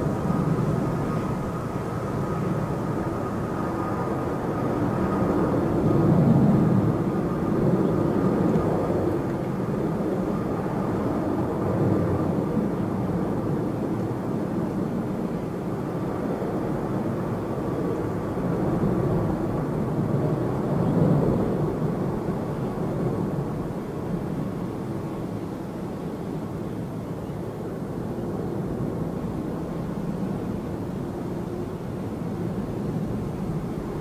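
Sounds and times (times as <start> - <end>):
faint high engine whine: 0.0 - 34.0
jet engines rumbling: 0.0 - 34.0.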